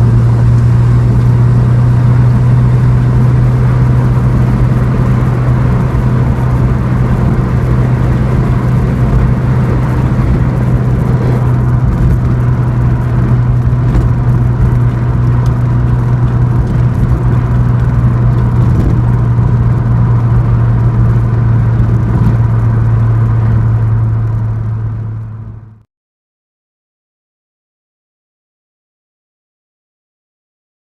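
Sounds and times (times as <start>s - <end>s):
car engine droning while driving: 0.0s - 25.8s.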